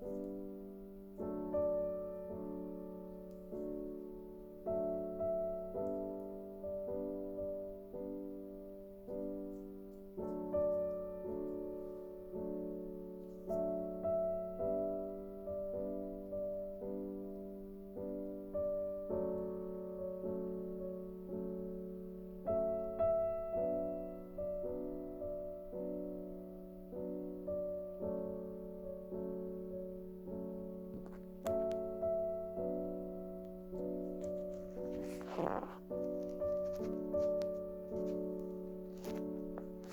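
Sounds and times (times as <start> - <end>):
soft piano music: 0.0 - 39.9.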